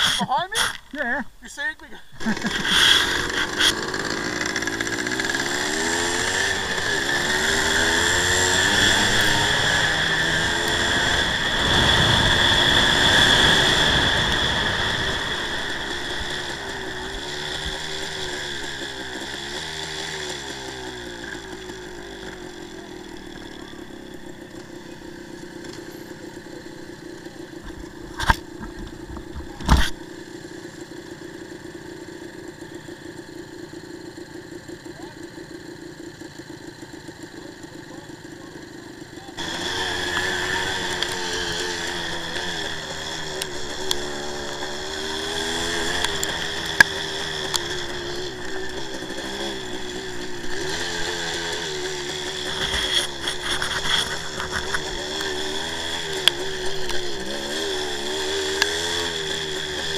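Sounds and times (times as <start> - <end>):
motorcycle engine revving: 2.1 - 59.9.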